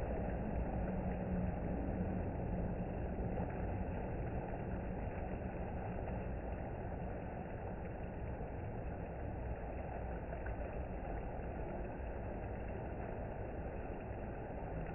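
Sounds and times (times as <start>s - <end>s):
water rushing and splashing into pool: 0.0s - 14.9s.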